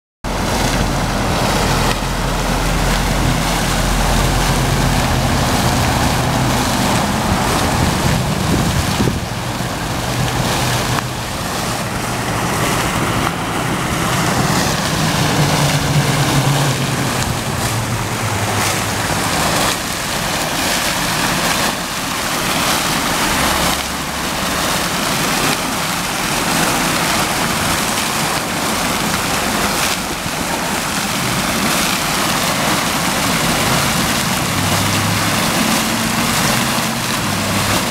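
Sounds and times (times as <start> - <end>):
fountain water splashing: 0.2 - 37.9.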